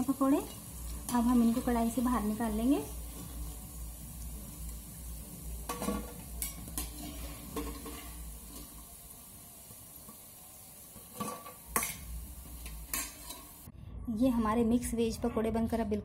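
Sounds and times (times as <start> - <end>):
food sizzling in hot oil: 0.0 - 13.7.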